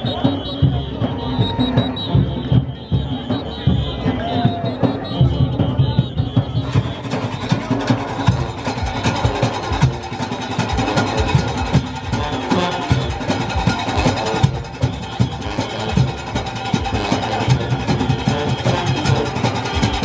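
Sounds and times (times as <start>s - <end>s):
brass horns playing: 0.0s - 20.0s
fast drum beat: 0.0s - 20.0s.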